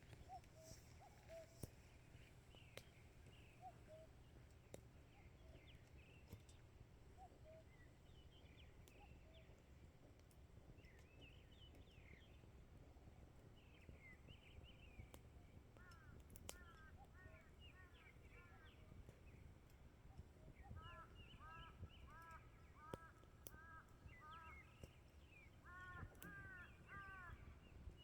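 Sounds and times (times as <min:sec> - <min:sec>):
birds chirping and twittering: 0:00.0 - 0:09.7, 0:13.6 - 0:28.0.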